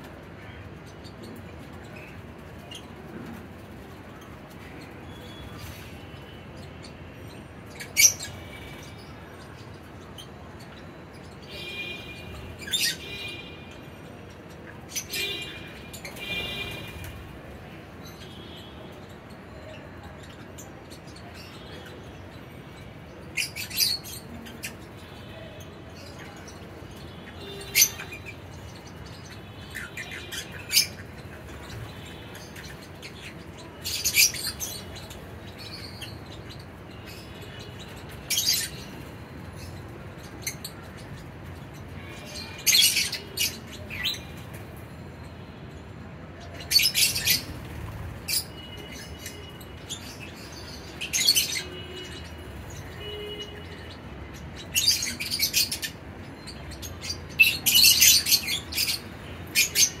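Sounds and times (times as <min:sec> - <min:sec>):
low background noise: 0:00.0 - 1:00.0
lovebirds chirping shrilly: 0:00.4 - 0:19.3, 0:20.5 - 0:45.6, 0:46.6 - 1:00.0.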